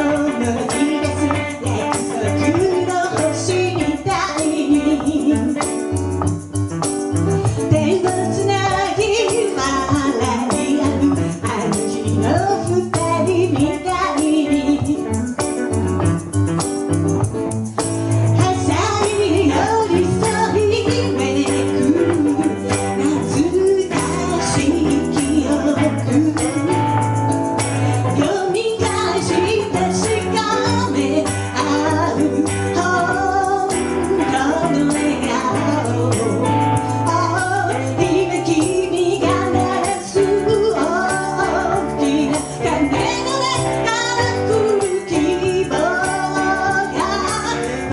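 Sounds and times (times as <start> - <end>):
person singing: 0.0 - 5.9, 7.4 - 15.4, 18.4 - 47.9
instrumental accompaniment: 0.0 - 47.9.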